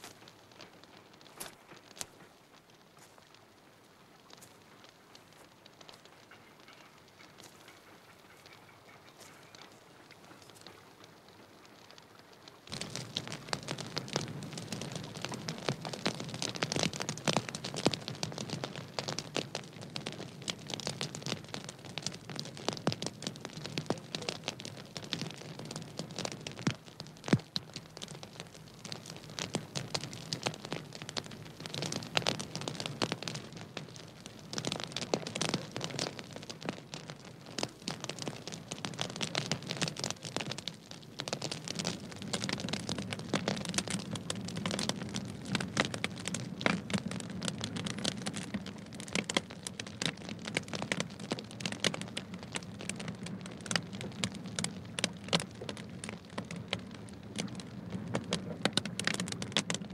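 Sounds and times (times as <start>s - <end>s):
bonfire crackling and popping: 0.0s - 59.9s.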